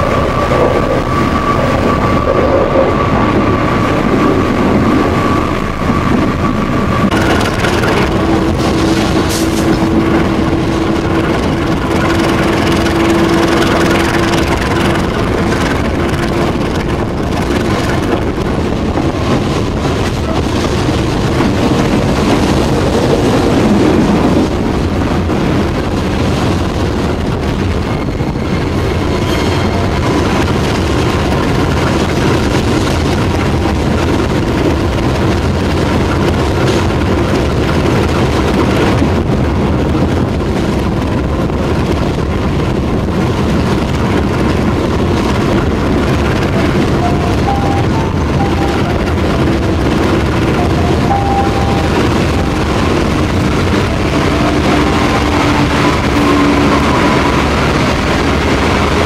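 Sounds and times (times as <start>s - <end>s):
train carriage clattering on track: 0.0s - 59.0s.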